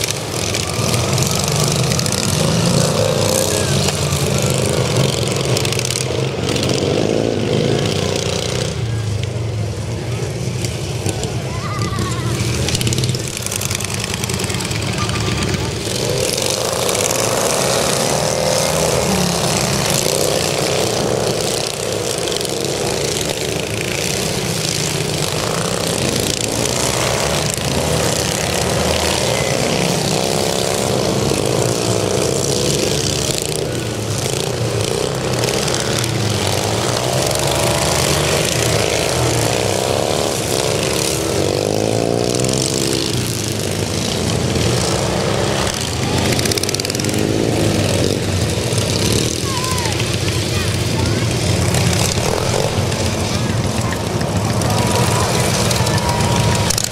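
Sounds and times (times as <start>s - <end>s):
lawn mower engines racing: 0.0s - 56.9s.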